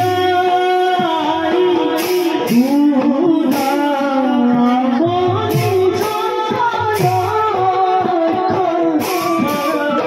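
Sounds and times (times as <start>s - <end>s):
music with singing over loudspeakers: 0.0s - 10.0s.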